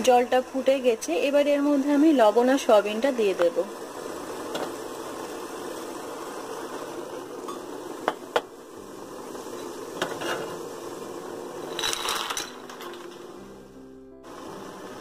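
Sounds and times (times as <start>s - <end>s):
water boiling in pot: 0.0s - 15.0s.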